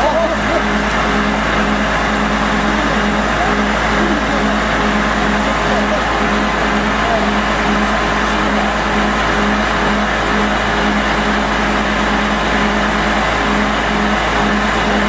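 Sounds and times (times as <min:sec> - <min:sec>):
drilling rig machine drone: 0:00.0 - 0:15.0.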